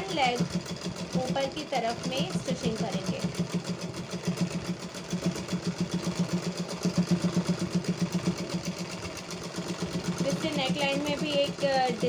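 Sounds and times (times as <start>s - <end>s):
sewing machine stitching: 0.0s - 12.0s.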